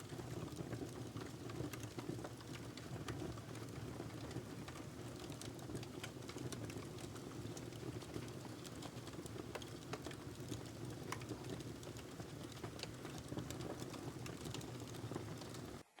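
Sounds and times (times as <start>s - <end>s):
fire flames rumbling: 0.0s - 15.8s
logs crackling and popping: 0.0s - 15.9s.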